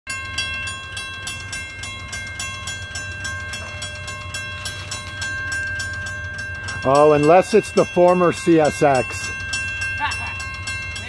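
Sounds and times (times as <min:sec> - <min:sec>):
railroad crossing bell ringing: 0:00.1 - 0:11.0.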